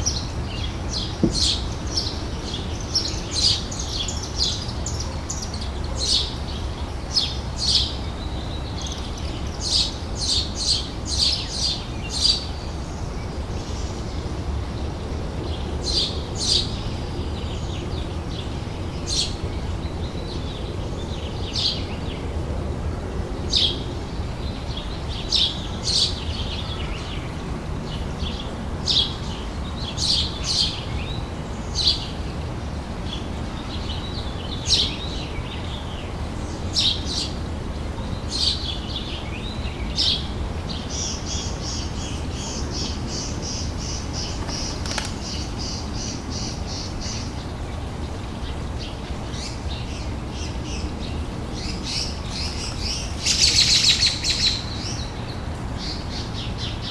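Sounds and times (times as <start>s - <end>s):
low background noise: 0.0s - 56.9s
songbirds chirping: 0.0s - 56.9s.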